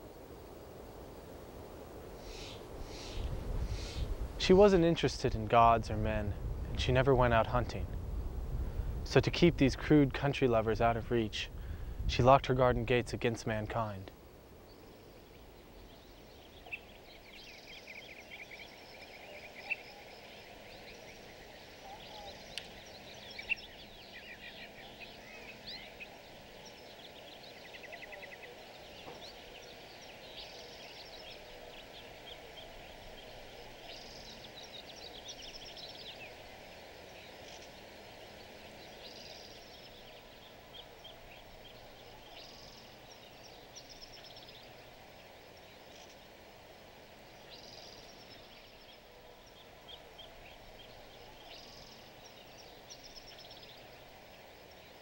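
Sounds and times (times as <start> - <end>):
faint outdoor background noise: 0.0 - 55.0
songbirds chirping and trilling: 0.0 - 55.0.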